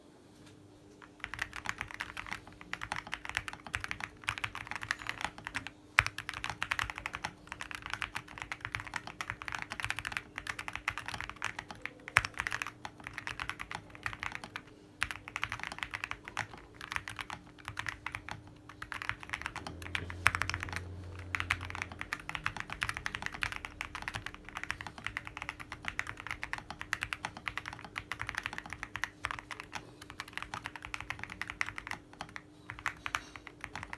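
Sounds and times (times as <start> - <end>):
fast typing on mechanical keyboard: 1.0 - 33.9.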